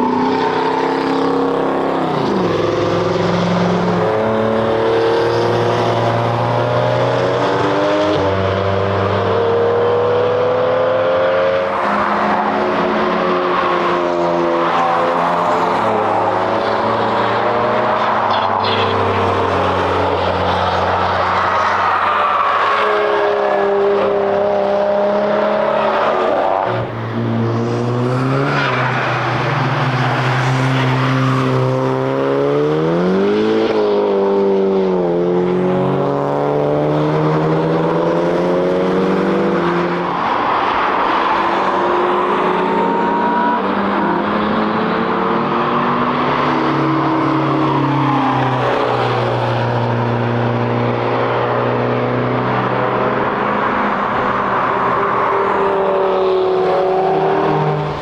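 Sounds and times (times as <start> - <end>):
cars passing at speed: 0.0 - 58.0.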